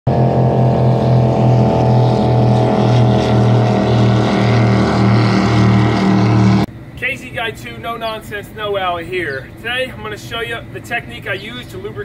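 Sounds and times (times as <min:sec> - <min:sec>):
speedboat engine droning: 0:00.1 - 0:12.0.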